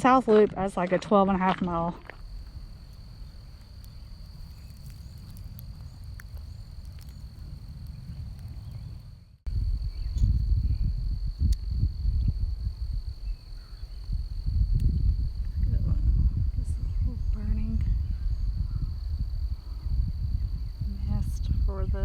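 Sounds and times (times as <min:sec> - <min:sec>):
insects trilling: 0:02.0 - 0:22.0
low rumble on microphone: 0:02.0 - 0:22.0.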